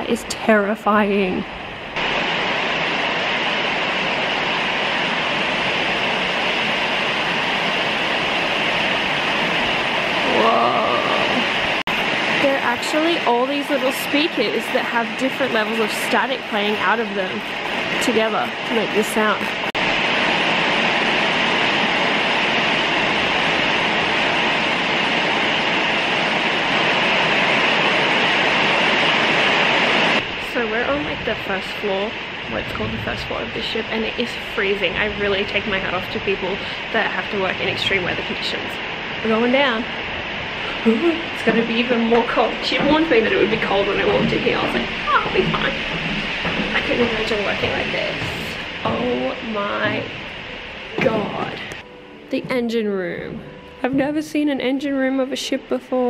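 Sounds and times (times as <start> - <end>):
loud rushing static hiss: 0.0 - 52.3.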